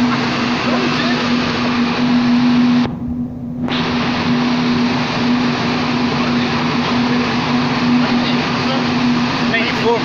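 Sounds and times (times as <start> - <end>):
car running on dyno: 0.0 - 10.0.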